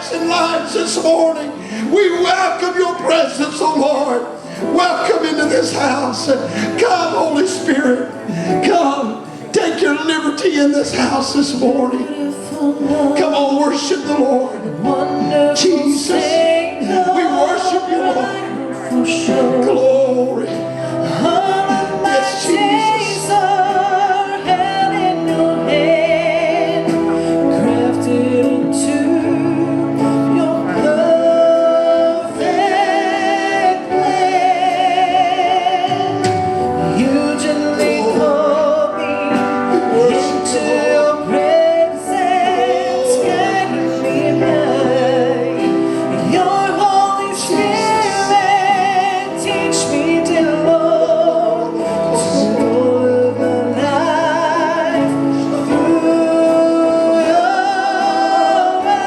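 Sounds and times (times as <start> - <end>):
sustained keyboard chords and bass: 0.0 - 59.0
voices singing with vibrato: 0.0 - 59.0.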